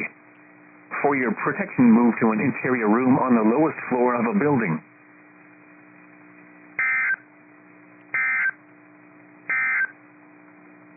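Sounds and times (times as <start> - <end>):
faint steady hum: 0.0 - 10.9.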